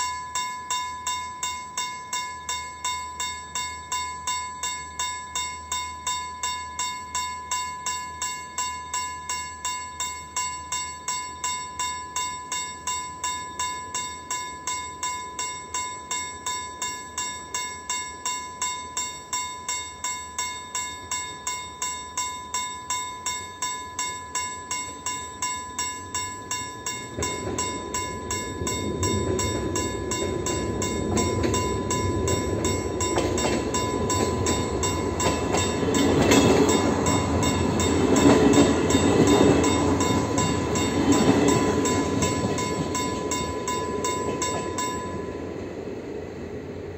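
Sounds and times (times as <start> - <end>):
level crossing warning bell: 0.0 - 46.9
train wheel and rail noise: 0.0 - 46.9.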